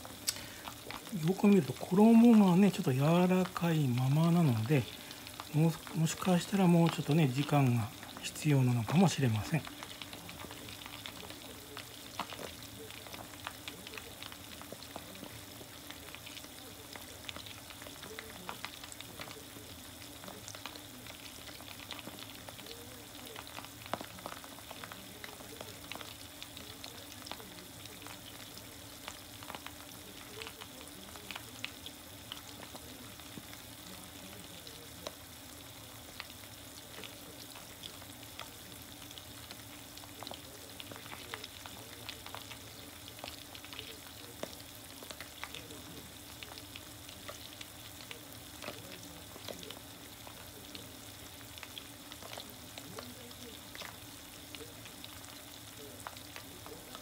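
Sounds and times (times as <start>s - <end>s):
chicken deep-frying in oil: 0.0s - 57.0s
small crackles and pops: 0.0s - 57.0s.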